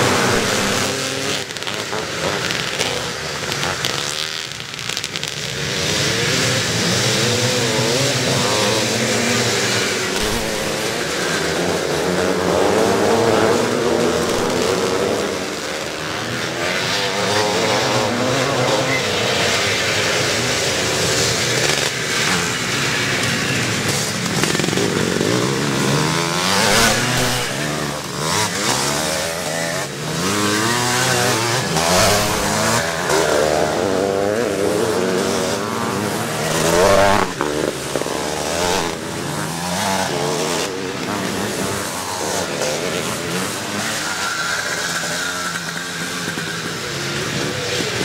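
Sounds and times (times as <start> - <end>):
motocross bikes revving: 0.0 - 48.0.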